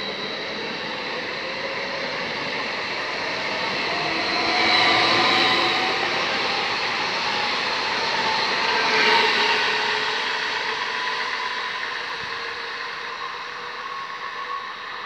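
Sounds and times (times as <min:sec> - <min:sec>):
electric train passing on track: 0:00.0 - 0:15.0.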